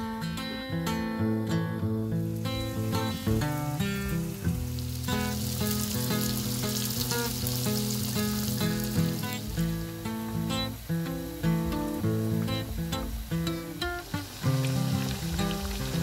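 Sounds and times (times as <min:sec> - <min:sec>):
falafel sizzling in a pan: 0:00.3 - 0:16.0.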